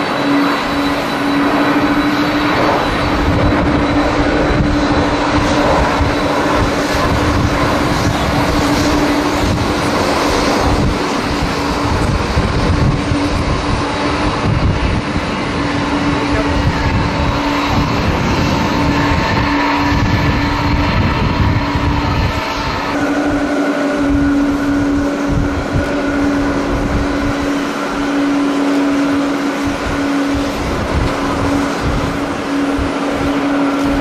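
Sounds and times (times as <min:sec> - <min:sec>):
jet engines roaring at takeoff: 0:00.0 - 0:34.0
wind buffeting microphone: 0:00.0 - 0:34.0.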